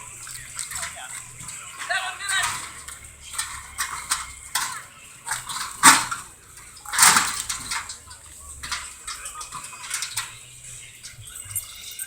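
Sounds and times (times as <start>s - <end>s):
sharp bangs: 0.0s - 11.7s
metallic clanks of hand tools: 0.0s - 12.0s.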